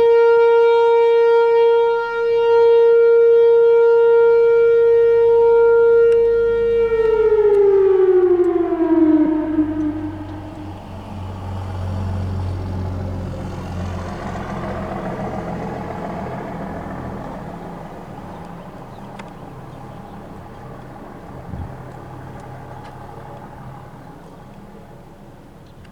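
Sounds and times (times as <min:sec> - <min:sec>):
warning siren winding down: 0:00.0 - 0:25.1
low rumble: 0:03.4 - 0:24.2.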